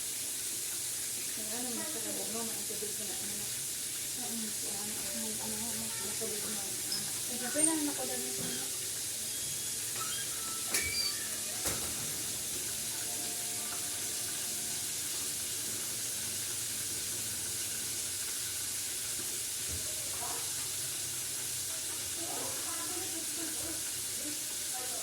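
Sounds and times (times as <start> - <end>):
chicken sizzling in hot oil: 0.0 - 25.0.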